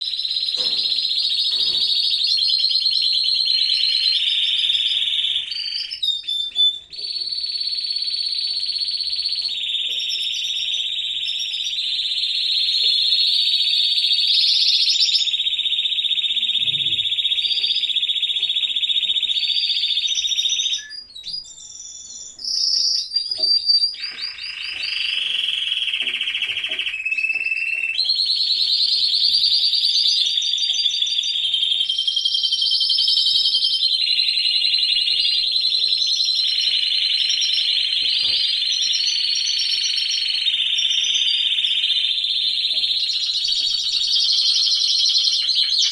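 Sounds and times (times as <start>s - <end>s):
canaries singing trills: 0.0s - 45.9s.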